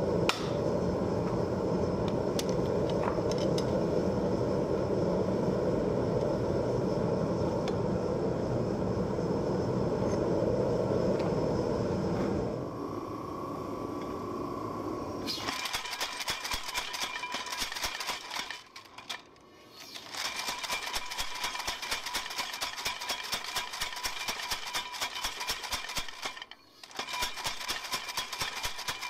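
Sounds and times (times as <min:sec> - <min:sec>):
power hammer drive running: 0:00.0 - 0:29.0.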